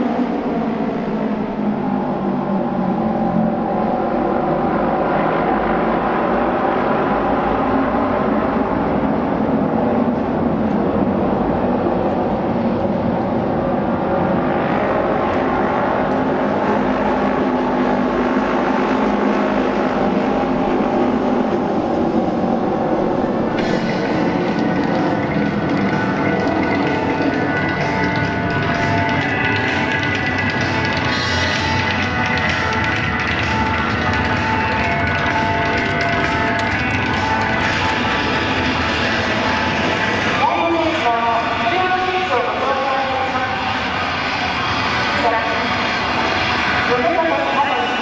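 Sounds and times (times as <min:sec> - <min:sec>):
racing motorcycle engines: 0:00.0 - 0:48.0.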